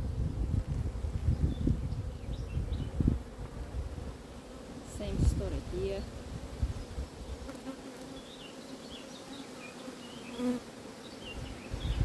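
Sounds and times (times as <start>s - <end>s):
bees buzzing: 0.1s - 12.0s.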